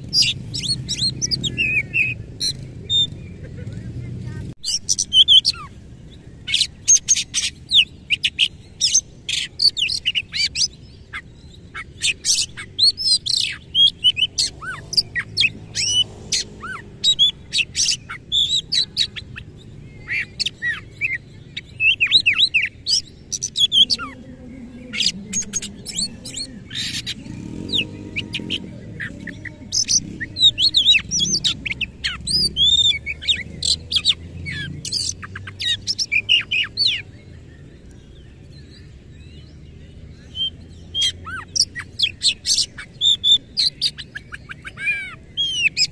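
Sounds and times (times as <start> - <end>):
bird singing harsh chattering notes: 0.0 - 45.9.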